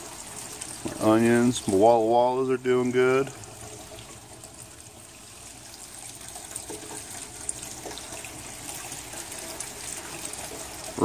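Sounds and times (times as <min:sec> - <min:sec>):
water running steadily: 0:00.0 - 0:11.0.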